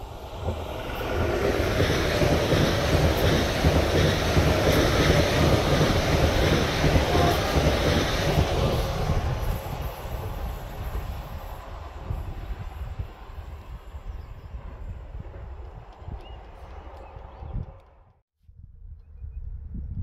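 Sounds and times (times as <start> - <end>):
train wheels rolling on rails: 0.0 - 18.2.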